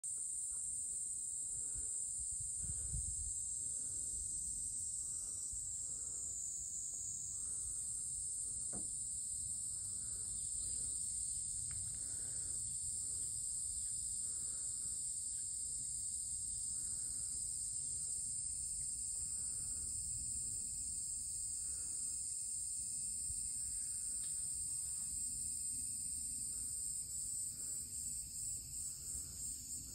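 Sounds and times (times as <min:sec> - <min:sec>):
insects chorus: 0:00.0 - 0:29.9
soft pulsing insect calls: 0:00.1 - 0:29.9.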